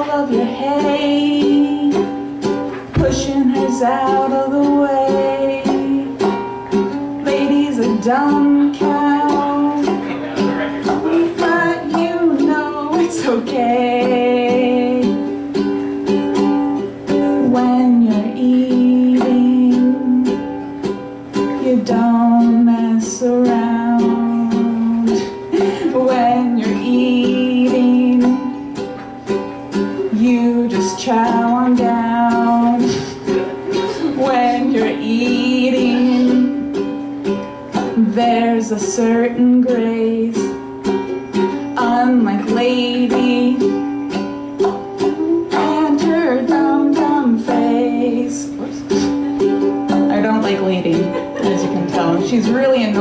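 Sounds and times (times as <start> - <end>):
woman singing: 0.0 - 28.9, 29.8 - 53.0
ukulele strumming chords: 0.0 - 53.0.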